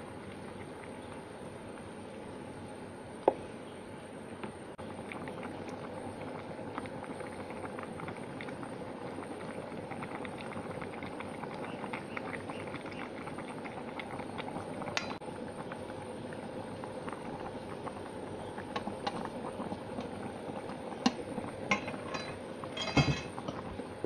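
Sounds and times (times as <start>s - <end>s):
curry boiling and bubbling: 0.0s - 24.0s.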